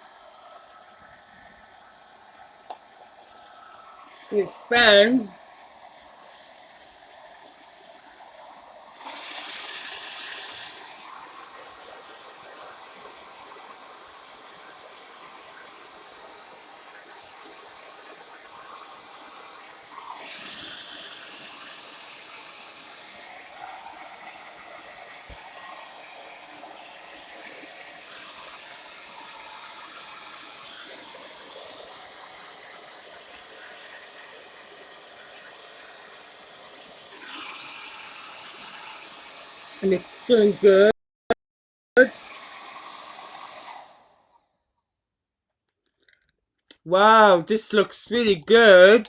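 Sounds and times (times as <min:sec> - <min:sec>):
hair dryer blowing: 0:00.0 - 0:40.9, 0:42.0 - 0:44.3.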